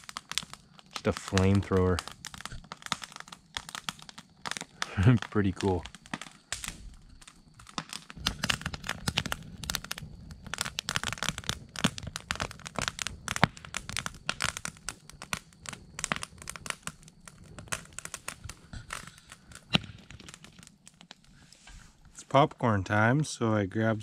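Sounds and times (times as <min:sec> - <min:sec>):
low fire rumble: 0:00.0 - 0:24.0
wood fire crackling and popping: 0:00.0 - 0:24.0.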